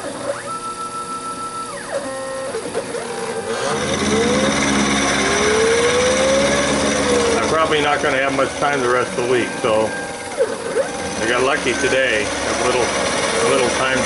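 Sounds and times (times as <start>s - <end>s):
drive motors whining: 0.0s - 14.0s
milling machine cutting metal: 0.0s - 14.0s.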